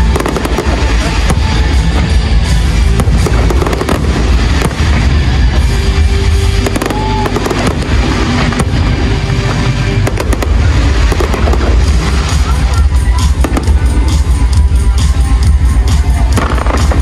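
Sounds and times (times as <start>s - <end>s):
fireworks booming and crackling: 0.0s - 17.0s
music: 0.0s - 17.0s.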